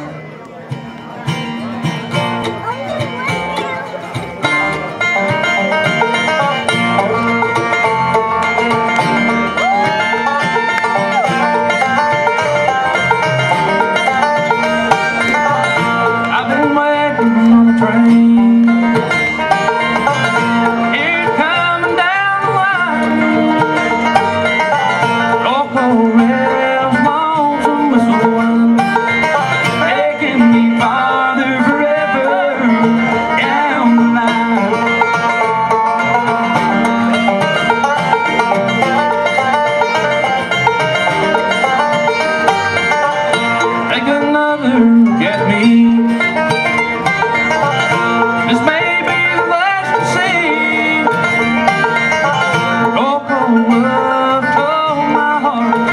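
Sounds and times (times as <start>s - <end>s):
banjo picking: 0.0s - 55.9s
mandolin: 0.0s - 55.9s
strummed acoustic guitar: 0.0s - 55.9s.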